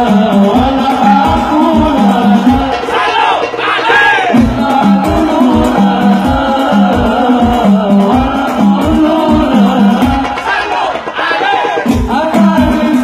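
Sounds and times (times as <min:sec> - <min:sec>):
darbuka fast rhythm: 0:00.0 - 0:13.0
frame drums: 0:00.0 - 0:13.0.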